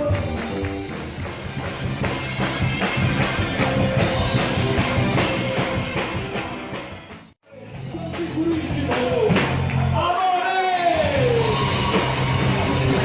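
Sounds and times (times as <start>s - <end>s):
live pop band instrumental: 0.0s - 10.2s, 10.8s - 13.0s.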